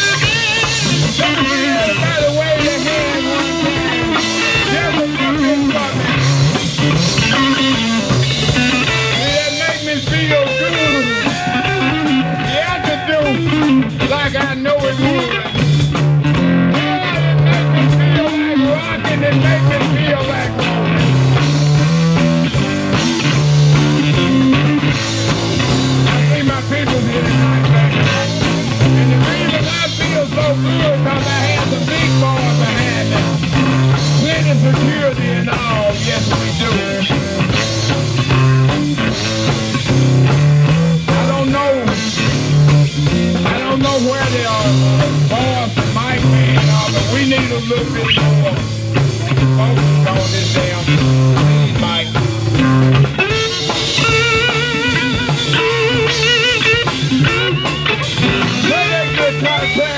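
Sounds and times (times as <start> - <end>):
live band playing: 0.0 - 59.9
repeating bass line: 0.0 - 59.9.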